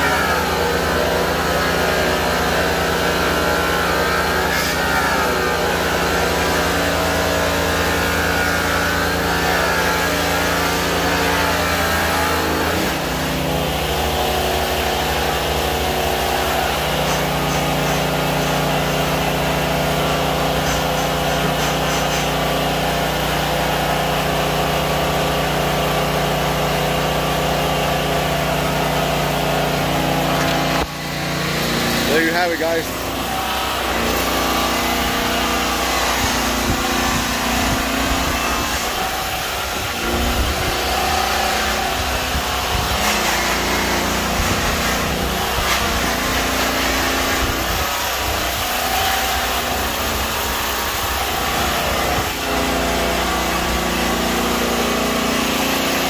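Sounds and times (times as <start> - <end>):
rotary polisher drone: 0.0 - 56.0.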